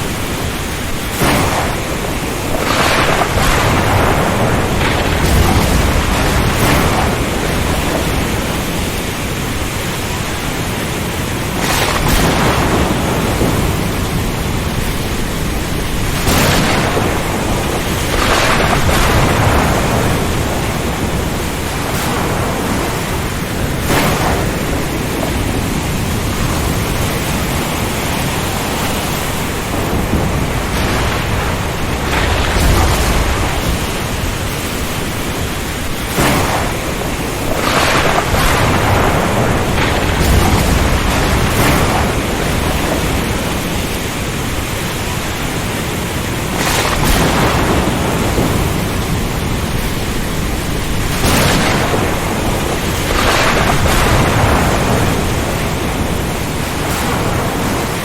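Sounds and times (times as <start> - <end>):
dense steady rain: 0.0 - 58.0
strong wind: 0.0 - 58.0.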